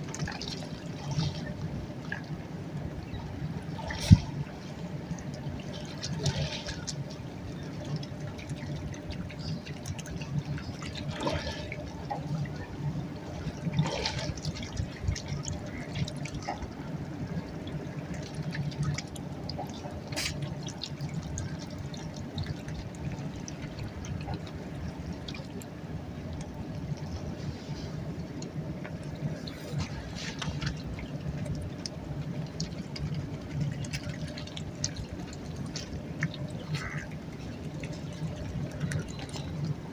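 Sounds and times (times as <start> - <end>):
river water lapping and trickling: 0.0 - 39.9
small splashes and drips: 0.0 - 39.9.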